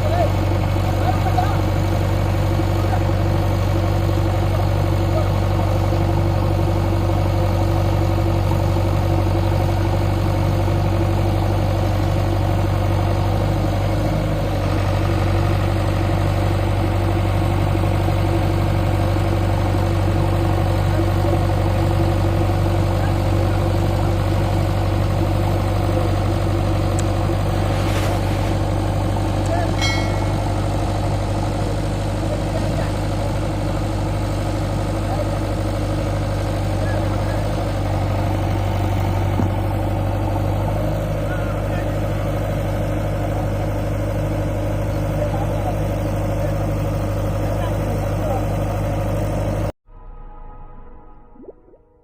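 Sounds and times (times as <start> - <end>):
diesel engine idling: 0.0 - 49.7.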